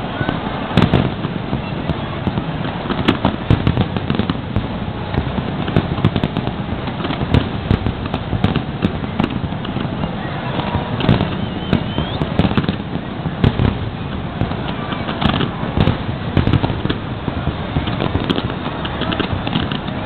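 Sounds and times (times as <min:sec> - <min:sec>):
fireworks bursting and crackling: 0:00.0 - 0:20.0.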